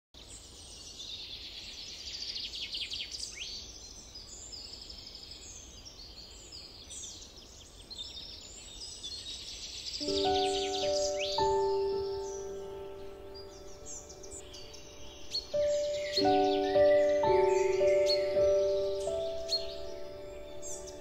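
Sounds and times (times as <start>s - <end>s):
songbirds chirping and trilling: 0.2s - 21.0s.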